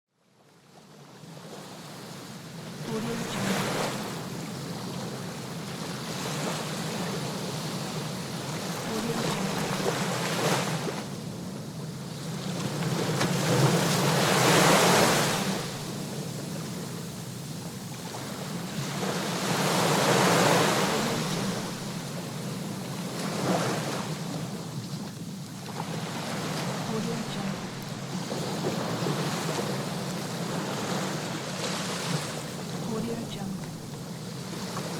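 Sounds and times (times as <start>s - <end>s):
sea waves breaking on shore: 0.4s - 34.9s.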